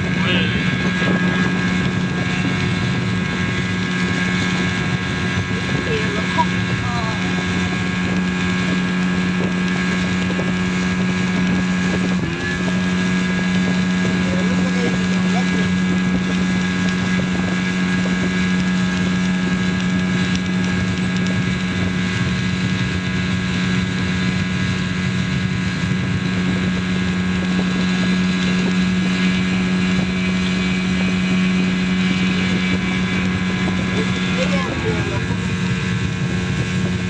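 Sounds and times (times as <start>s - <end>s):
outboard motor drone: 0.0s - 37.0s
wind buffeting microphone: 0.0s - 37.0s.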